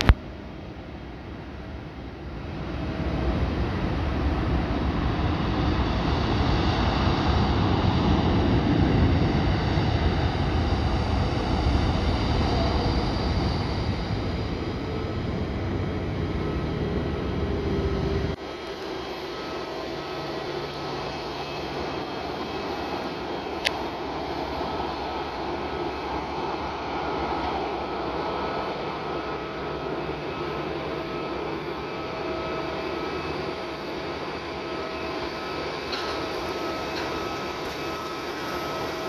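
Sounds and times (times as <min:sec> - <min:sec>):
jet engine whine: 0:00.0 - 0:39.0
jet engines rumbling: 0:00.0 - 0:39.0.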